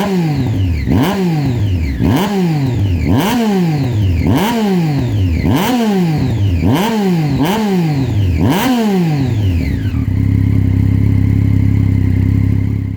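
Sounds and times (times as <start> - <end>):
motorcycle engine idling: 0.0 - 12.9
motorcycle engine revving: 0.0 - 12.9.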